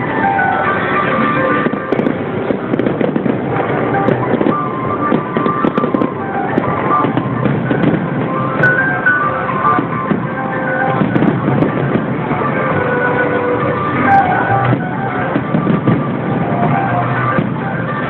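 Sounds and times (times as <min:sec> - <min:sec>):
fireworks bursting and crackling: 0:00.0 - 0:18.0
loud music: 0:00.0 - 0:18.0.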